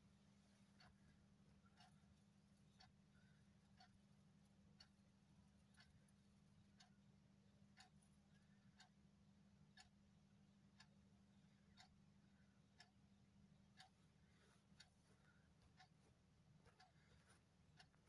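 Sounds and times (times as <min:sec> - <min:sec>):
low steady hum: 0:00.0 - 0:18.0
clock ticking: 0:00.3 - 0:18.0.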